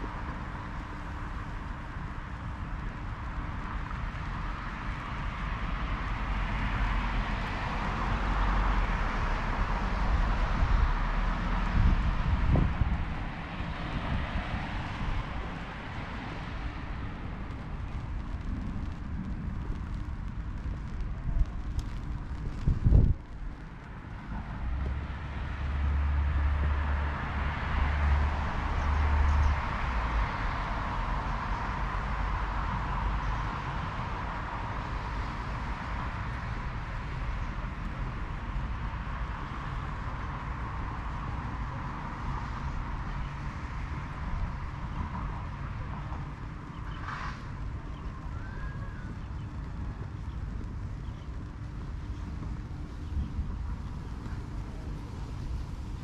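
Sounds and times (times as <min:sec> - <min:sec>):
vehicle engine and tyres: 0:00.0 - 0:56.0.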